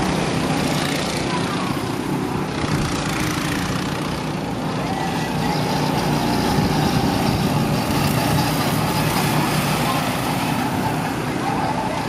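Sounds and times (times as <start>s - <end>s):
go-kart engines droning: 0.0s - 12.0s.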